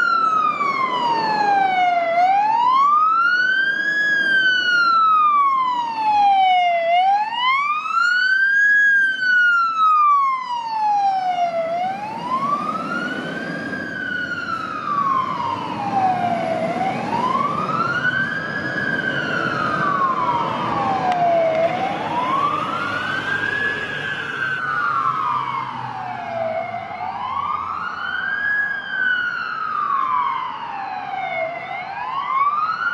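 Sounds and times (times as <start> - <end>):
fire truck siren wailing: 0.0 - 32.9.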